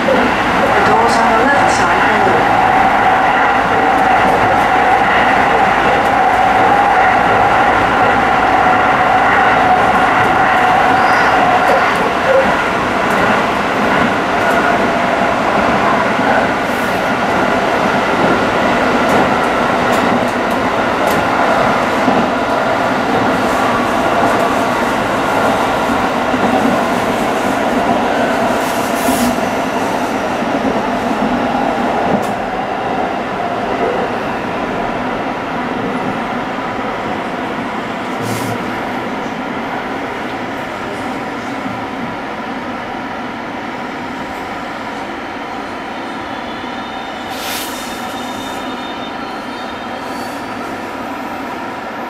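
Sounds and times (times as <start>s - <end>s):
steady train hum: 0.0s - 52.0s
train wheels rumbling on rails: 0.0s - 52.0s.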